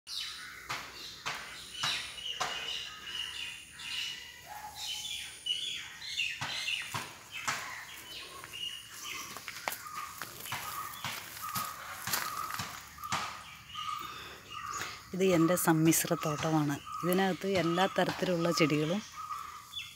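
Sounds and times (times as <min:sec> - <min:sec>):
birds chirping and calling: 0:00.1 - 0:19.9.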